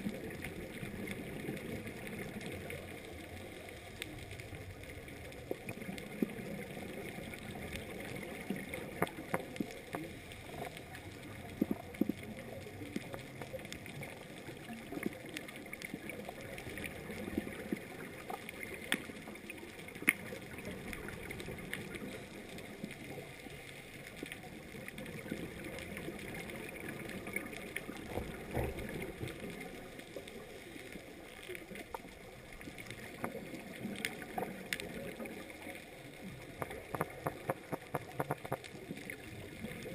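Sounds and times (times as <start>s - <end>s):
low gurgle: 0.0s - 39.9s
sharp clicks underwater: 0.0s - 39.9s.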